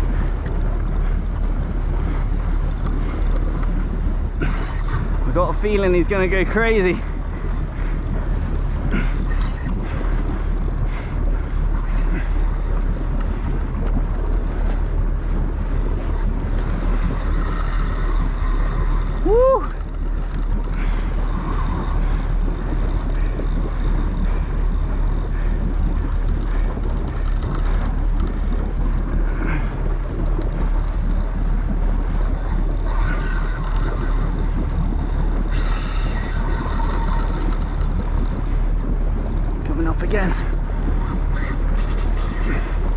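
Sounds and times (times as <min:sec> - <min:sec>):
boat engine rumble: 0:00.0 - 0:42.9
wind on microphone: 0:00.0 - 0:42.9.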